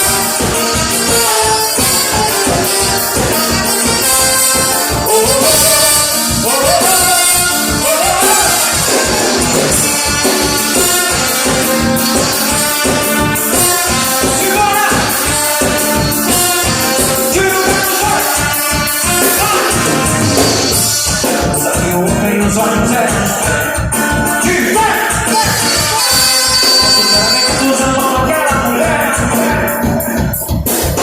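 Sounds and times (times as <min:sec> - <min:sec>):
person singing: 0:00.0 - 0:12.3, 0:13.9 - 0:30.5
brass: 0:00.0 - 0:31.0
percussion beat: 0:00.0 - 0:31.0
upbeat latin music: 0:00.0 - 0:31.0.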